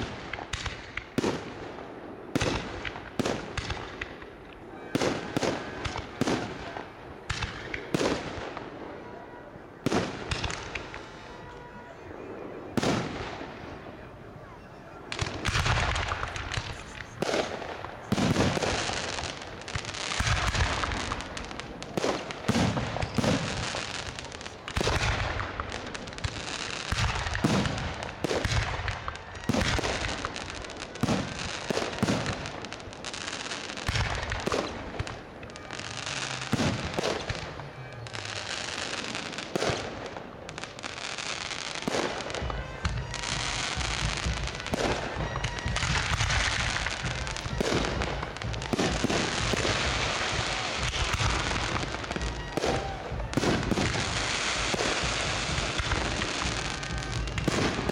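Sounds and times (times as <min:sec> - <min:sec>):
fireworks bursting: 0:00.0 - 0:57.9.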